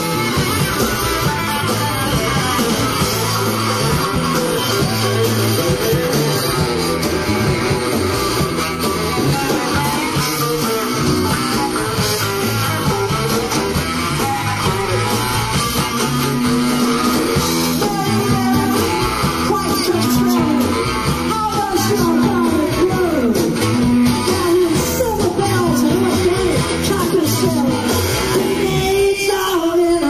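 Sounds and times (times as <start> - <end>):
electric guitar: 0.0 - 30.0
live rock band playing: 0.0 - 30.0.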